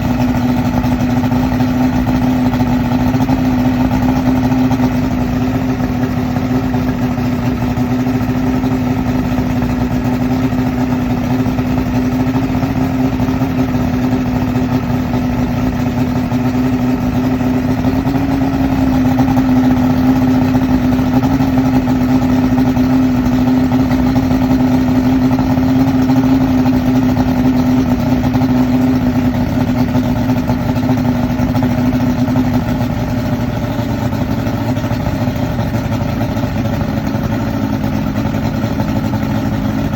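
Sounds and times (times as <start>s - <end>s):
outboard motor rough idle: 0.0s - 39.9s.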